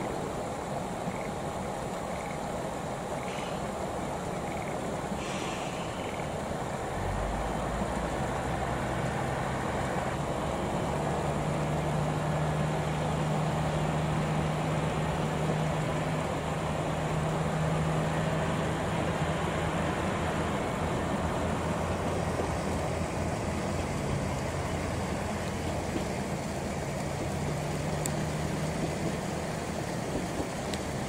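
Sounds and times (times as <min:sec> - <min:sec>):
diesel railcar engine drone: 0:00.0 - 0:31.0.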